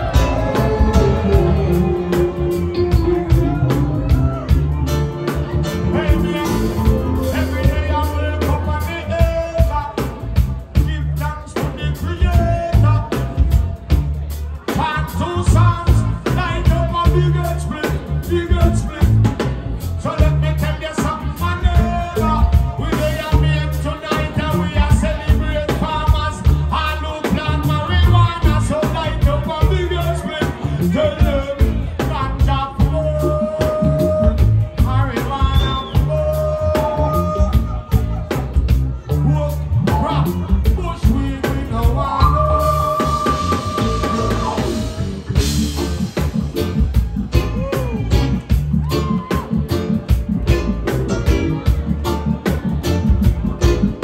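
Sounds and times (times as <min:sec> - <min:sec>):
man singing: 0:00.0 - 0:46.2
live reggae band playing: 0:00.0 - 0:54.0.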